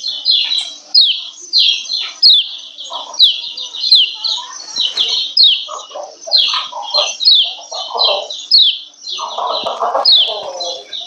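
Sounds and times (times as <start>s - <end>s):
bird chirping: 0.0s - 11.0s
harsh bird chattering: 0.0s - 11.0s.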